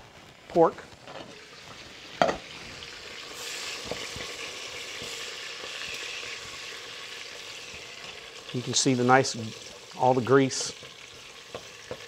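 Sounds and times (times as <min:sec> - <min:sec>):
sausage sizzling in a pan: 0:00.0 - 0:12.0
utensil stirring in a pan: 0:01.3 - 0:12.0.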